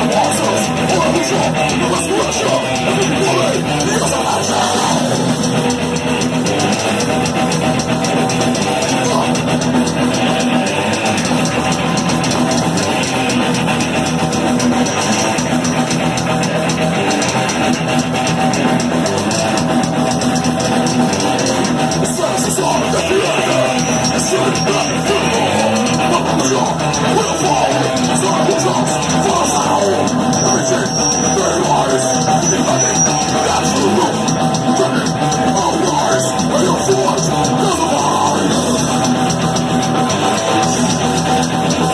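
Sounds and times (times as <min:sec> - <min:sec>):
distorted electric guitars: 0:00.0 - 0:41.9
fast driving drums: 0:00.0 - 0:41.9.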